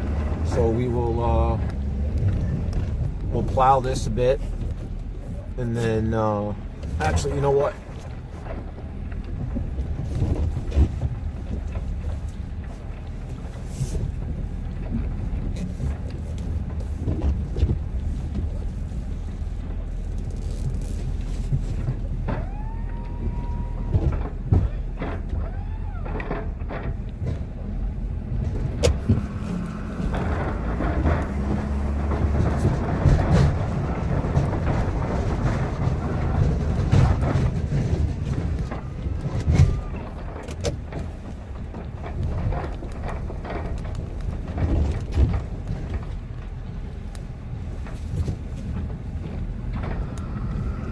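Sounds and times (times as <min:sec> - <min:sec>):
diesel pickup running: 0:00.0 - 0:50.9.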